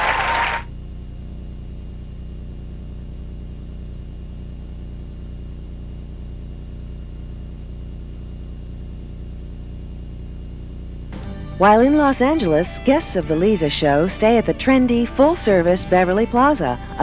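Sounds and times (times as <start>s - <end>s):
electrical hum and buzz: 0.0s - 17.0s
faint high whine: 0.0s - 17.0s.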